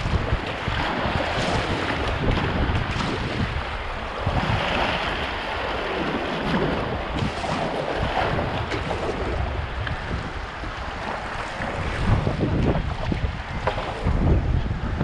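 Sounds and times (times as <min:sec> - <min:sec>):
river water rushing and splashing: 0:00.0 - 0:15.0
wind buffeting microphone: 0:00.0 - 0:15.0.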